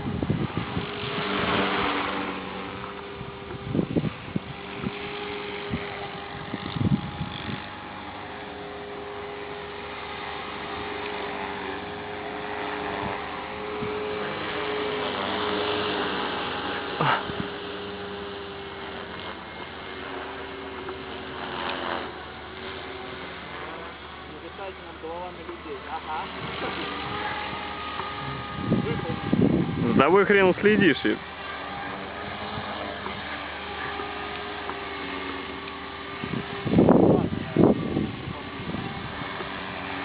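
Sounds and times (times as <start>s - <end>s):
rc helicopter whirring: 0.0s - 40.0s.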